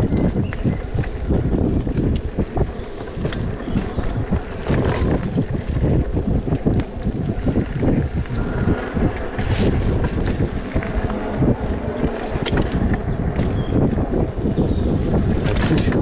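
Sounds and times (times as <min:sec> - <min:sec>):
bike clicks and rattles: 0:00.0 - 0:16.0
wind rushing over microphone: 0:00.0 - 0:16.0.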